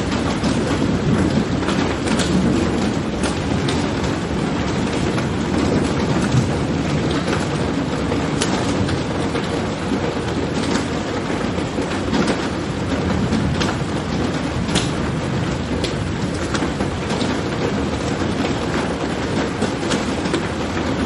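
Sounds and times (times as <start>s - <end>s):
rain falling: 0.0s - 21.0s
sharp raindrop ticks: 0.0s - 21.0s
soft rumble of thunder: 0.0s - 21.0s.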